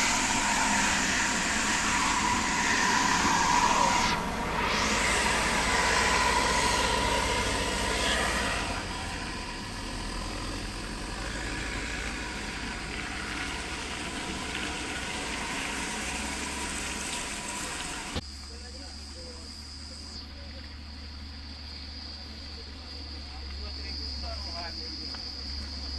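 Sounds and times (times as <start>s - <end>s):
steady hiss: 0.0s - 25.9s
vehicle engine humming: 0.0s - 25.9s.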